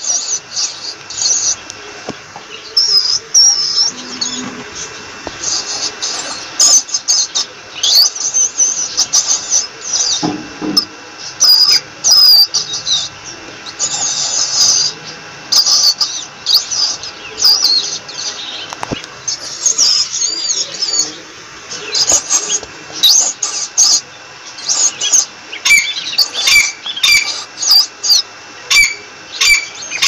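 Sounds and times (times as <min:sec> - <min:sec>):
rat squeaking: 0:02.5 - 0:30.0.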